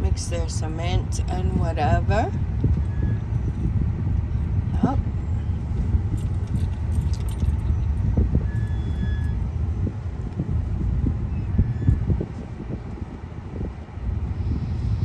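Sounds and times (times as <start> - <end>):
car driving on rough road: 0.0 - 14.7.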